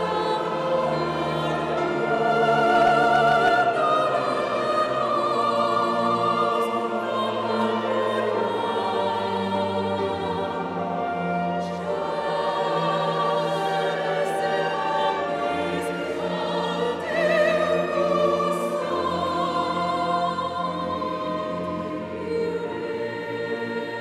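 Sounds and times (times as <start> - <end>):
orchestral accompaniment: 0.0 - 24.0
voices singing with vibrato: 0.0 - 24.0.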